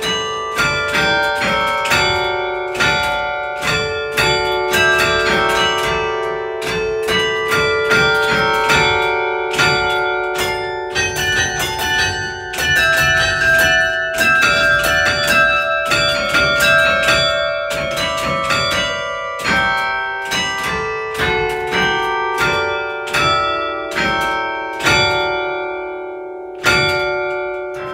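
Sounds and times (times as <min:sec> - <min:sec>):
church bells ringing: 0:00.0 - 0:27.9.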